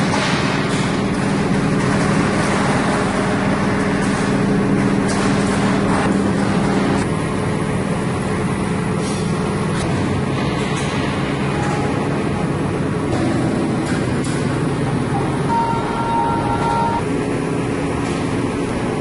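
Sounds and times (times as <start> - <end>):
loud workshop noise: 0.0 - 19.0
press brake machinery humming: 0.4 - 19.0.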